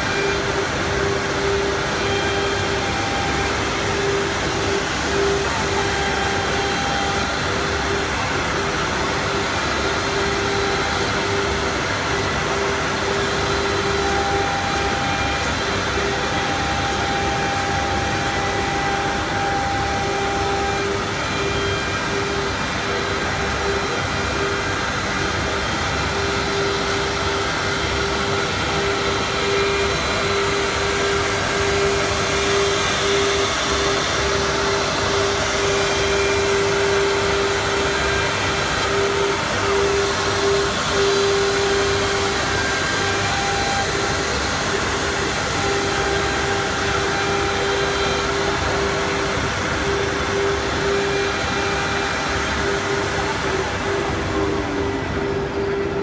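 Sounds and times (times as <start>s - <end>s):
cnc router high whine: 0.0s - 56.0s
rushing machine noise: 0.0s - 56.0s.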